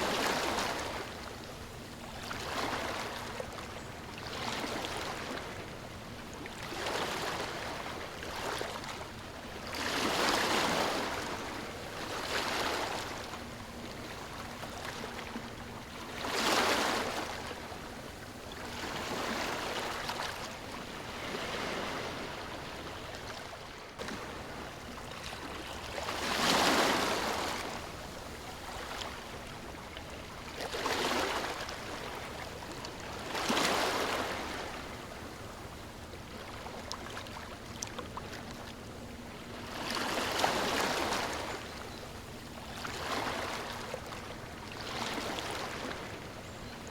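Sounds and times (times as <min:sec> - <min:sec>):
ocean waves washing ashore: 0:04.3 - 0:46.4.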